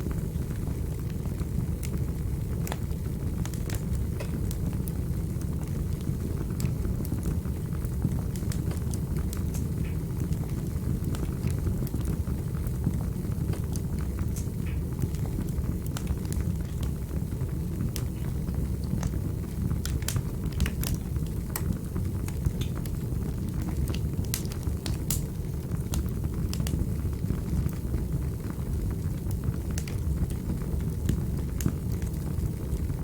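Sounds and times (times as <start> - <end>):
fire crackles and pops: 0.0 - 33.0
fireplace flames rumbling: 0.0 - 33.0.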